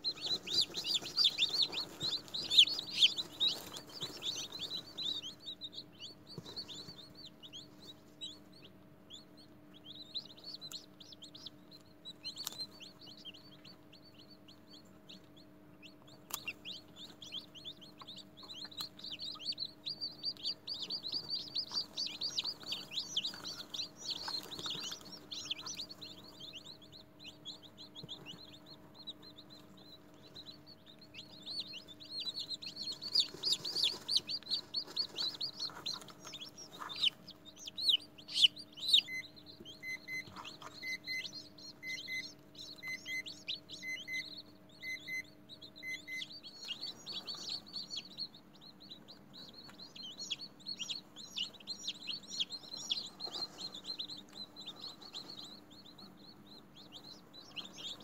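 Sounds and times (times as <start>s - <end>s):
chicks cheeping: 0.0s - 58.0s
faint steady hum: 0.0s - 58.0s.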